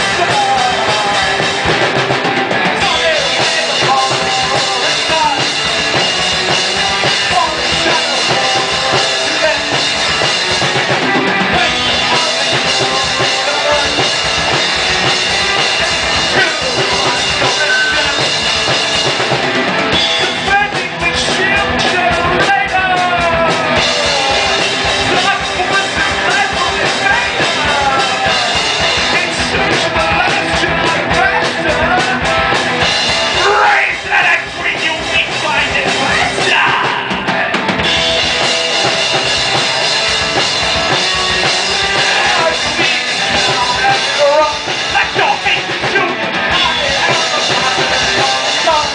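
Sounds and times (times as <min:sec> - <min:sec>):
fast bass drum beats: 0:00.0 - 0:48.9
live metal band: 0:00.0 - 0:48.9.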